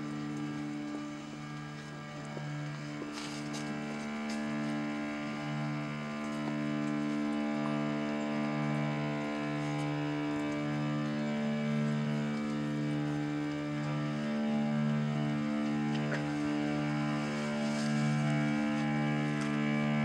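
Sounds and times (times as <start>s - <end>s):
cello bowed in sustained notes: 0.0s - 20.0s.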